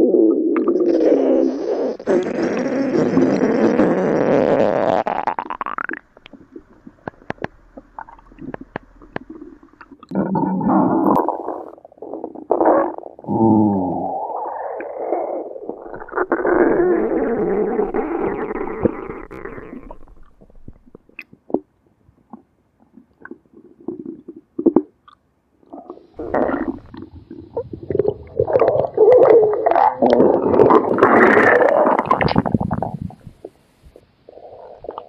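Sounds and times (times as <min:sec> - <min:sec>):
stomach growling and gurgling: 0:00.0 - 0:33.6, 0:34.3 - 0:35.0.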